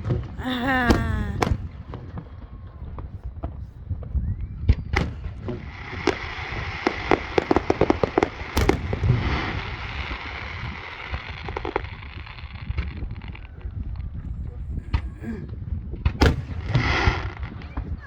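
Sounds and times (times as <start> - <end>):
fireworks bangs and cracks: 3.0 - 18.0.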